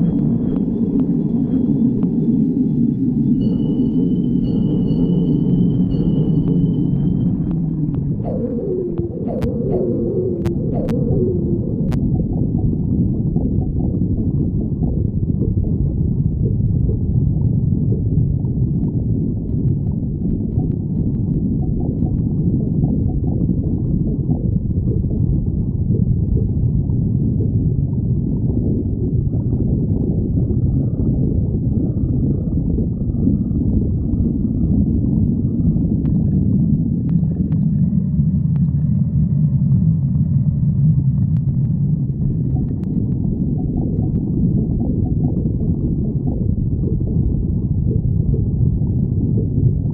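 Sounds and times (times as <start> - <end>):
stomach growling: 6.4 - 49.9.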